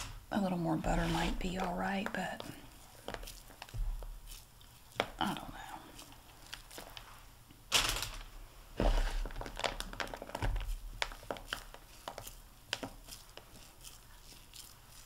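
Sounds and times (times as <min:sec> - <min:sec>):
crumbly mixture crackling: 0:00.0 - 0:15.0.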